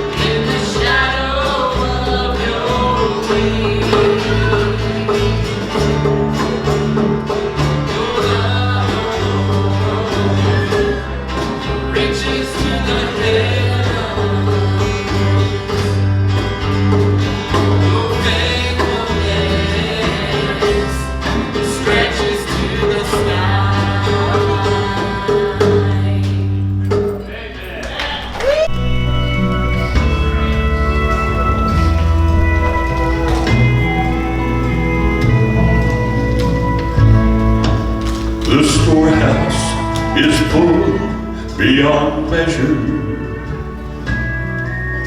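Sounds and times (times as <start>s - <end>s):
held bass notes: 0.0s - 27.2s, 28.2s - 45.0s
gospel band playing: 0.0s - 45.0s
guitar: 0.0s - 45.0s.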